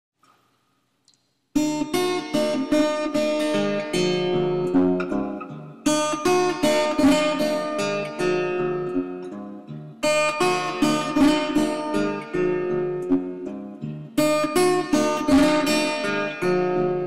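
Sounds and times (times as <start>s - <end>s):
acoustic guitar strumming: 1.6s - 17.0s.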